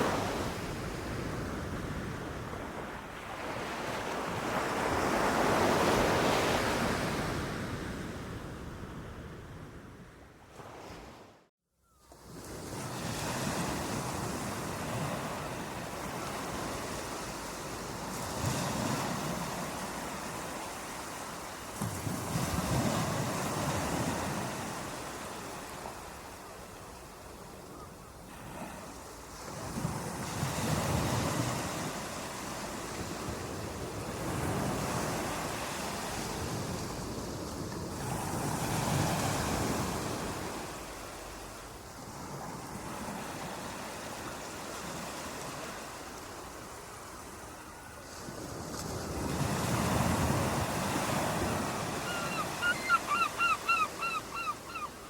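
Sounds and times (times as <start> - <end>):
ocean waves breaking on beach: 0.0 - 11.5, 12.1 - 55.0.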